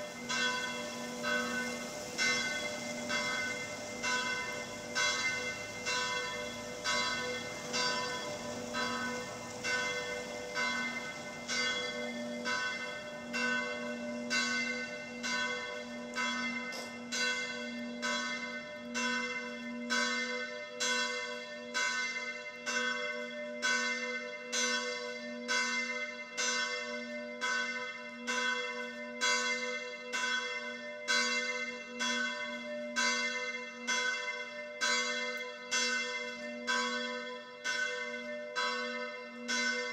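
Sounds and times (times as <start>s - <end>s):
large bell tolling: 0.0s - 39.9s.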